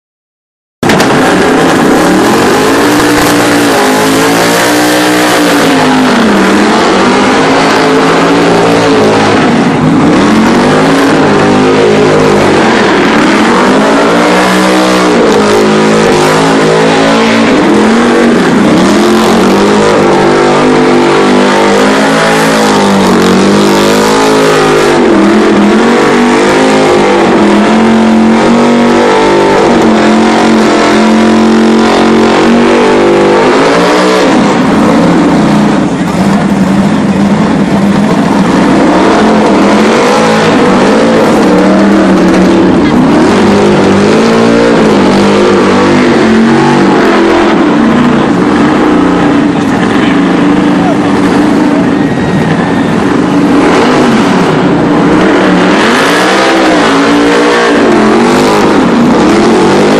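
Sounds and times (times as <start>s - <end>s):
car engine revving: 0.8s - 59.9s.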